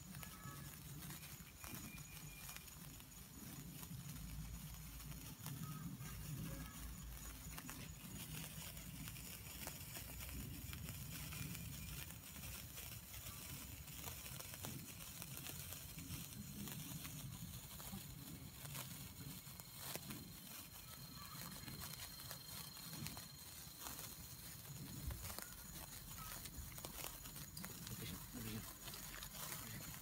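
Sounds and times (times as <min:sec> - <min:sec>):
sparklers crackling: 0:00.0 - 0:30.0.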